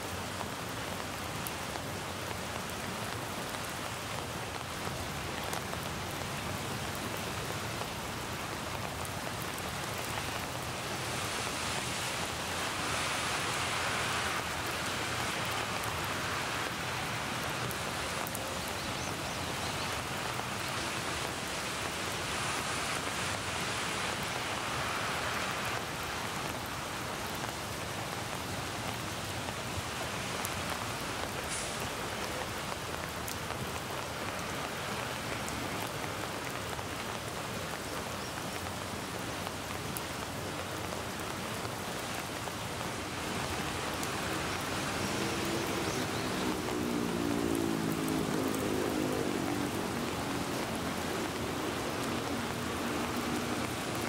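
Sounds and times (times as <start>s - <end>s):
rain on leaves and pavement: 0.0s - 54.0s.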